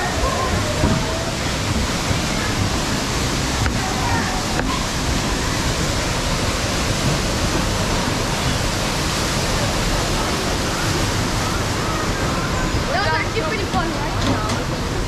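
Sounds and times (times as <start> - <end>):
waterfall pouring into a pool: 0.0 - 15.0.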